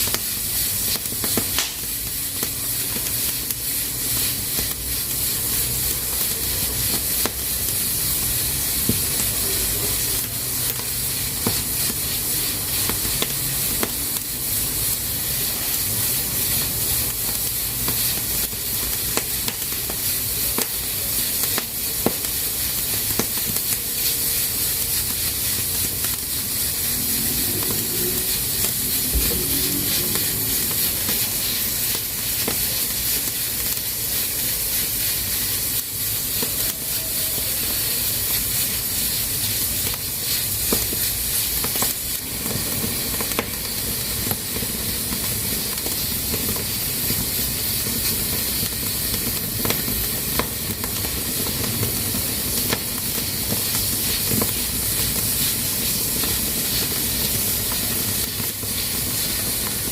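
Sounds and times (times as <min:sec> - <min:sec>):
pressure cooker hissing: 0:00.0 - 0:59.9.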